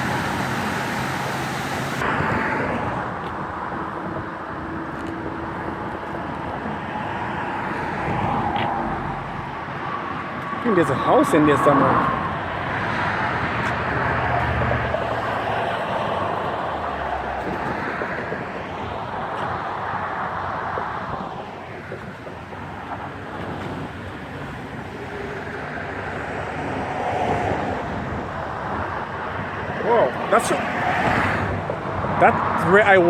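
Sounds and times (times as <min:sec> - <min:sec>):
engine and tyres on road: 0:00.0 - 0:33.0.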